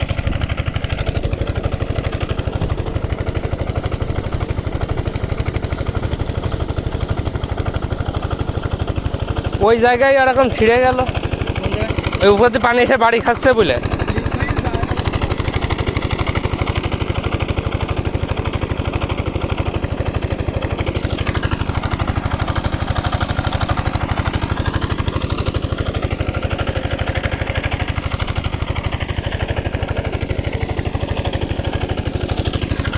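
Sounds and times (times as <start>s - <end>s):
diesel pump engine running: 0.0s - 32.9s.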